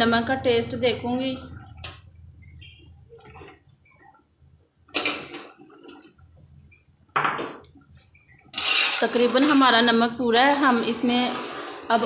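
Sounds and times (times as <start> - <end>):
boiling water bubbling: 0.0 - 12.0.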